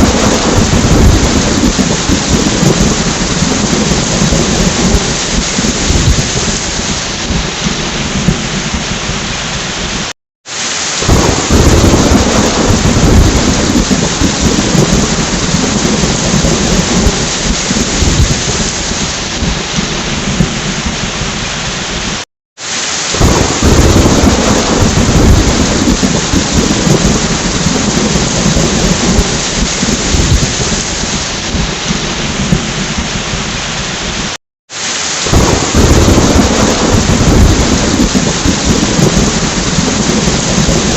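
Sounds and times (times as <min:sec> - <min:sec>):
rolling thunder: 0:00.0 - 0:10.0, 0:11.0 - 0:21.6, 0:23.2 - 0:33.7, 0:35.2 - 0:40.9
heavy rain: 0:00.0 - 0:40.9.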